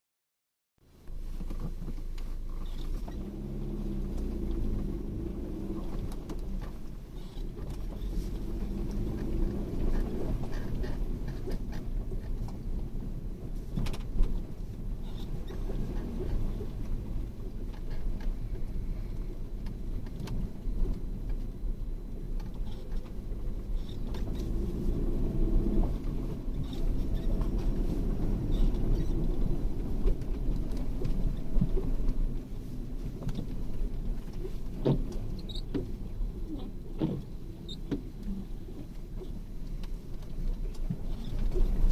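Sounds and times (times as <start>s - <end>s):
vehicle engine running: 2.5s - 41.9s.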